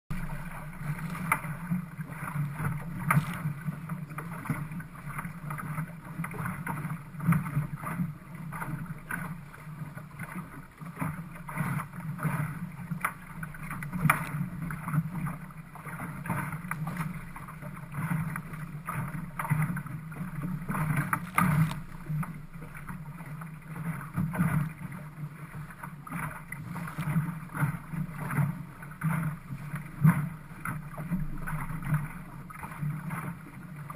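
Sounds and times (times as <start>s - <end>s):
water rushing along hull: 0.1s - 33.9s
water slapping against boat: 0.1s - 33.9s.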